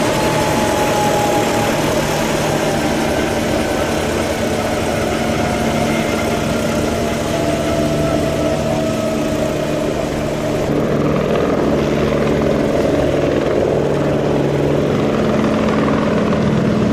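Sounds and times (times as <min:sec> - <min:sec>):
helicopter rotor hum: 0:00.0 - 0:16.9
helicopter whine: 0:00.0 - 0:16.9.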